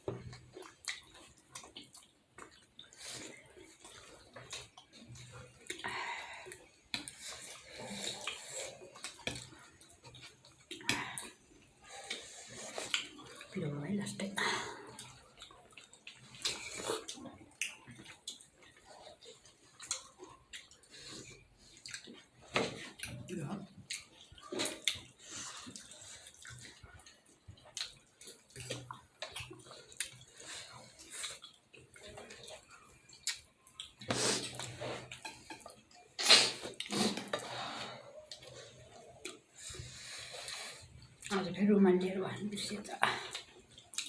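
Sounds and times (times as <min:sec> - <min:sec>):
wet chewing and slurping: 0:00.0 - 0:13.6, 0:14.4 - 0:41.3, 0:43.0 - 0:44.0.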